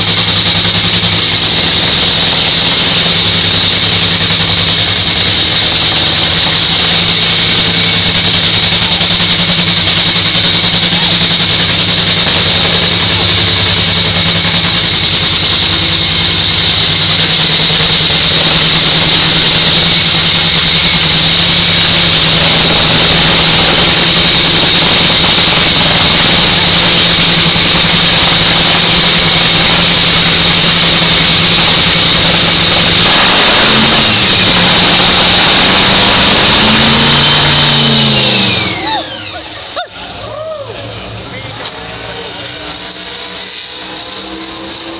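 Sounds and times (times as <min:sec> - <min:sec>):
loud race car engine running: 0:00.0 - 0:44.9.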